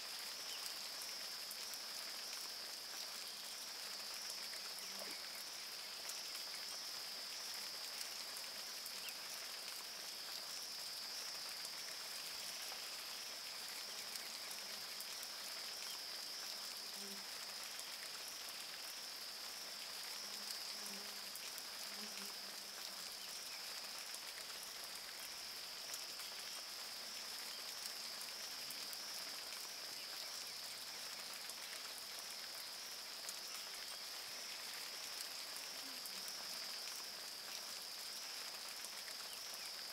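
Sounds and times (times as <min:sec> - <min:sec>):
rain pattering on water: 0:00.0 - 0:39.9.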